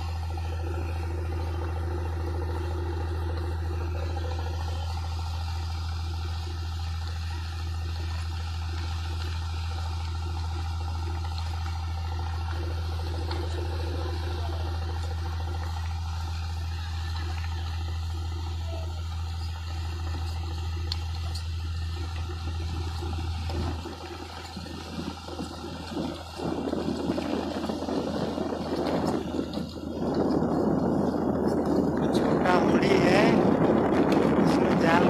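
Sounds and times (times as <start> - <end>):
boat engine drone: 0.0 - 35.0
water rushing in wake: 0.0 - 35.0.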